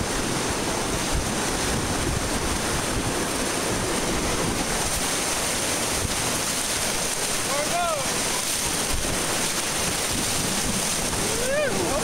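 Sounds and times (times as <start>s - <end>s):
rushing whitewater rapids: 0.0s - 12.0s.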